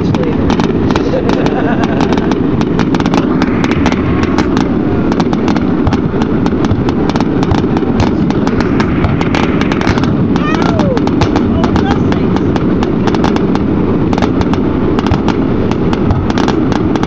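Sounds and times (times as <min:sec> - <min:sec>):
loud low rumble: 0:00.0 - 0:16.3
fireworks bangs and crackles: 0:00.0 - 0:17.0.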